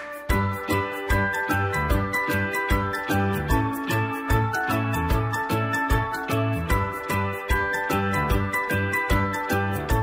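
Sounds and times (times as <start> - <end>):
music with fast steady beat: 0.0 - 10.0.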